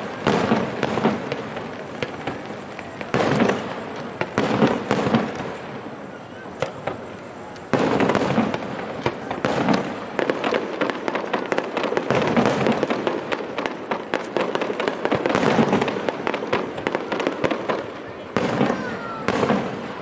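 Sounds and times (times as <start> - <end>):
fireworks crackling and popping: 0.0 - 20.0
fireworks loud burst: 0.0 - 20.0.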